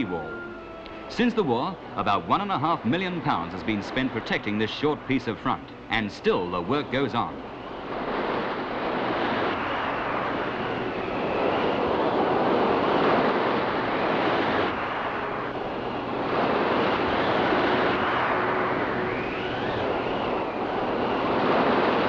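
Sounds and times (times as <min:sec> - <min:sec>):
wind: 0:00.0 - 0:22.0
storm waves breaking on seawall: 0:01.1 - 0:22.0.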